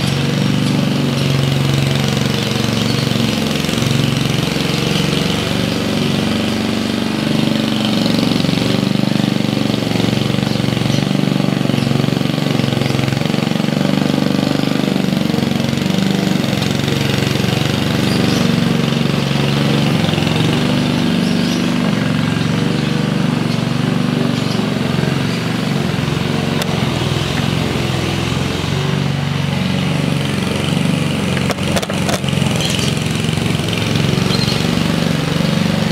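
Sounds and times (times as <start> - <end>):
lawn mower running: 0.0 - 35.9.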